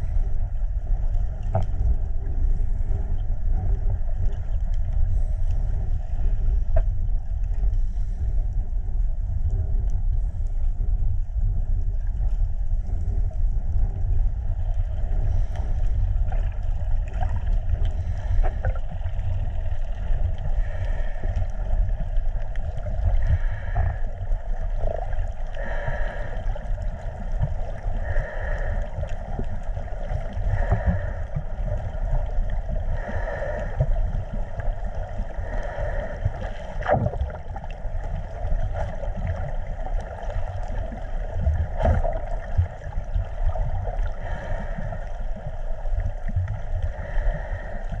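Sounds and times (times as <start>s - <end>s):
low underwater rumble: 0.0s - 48.0s.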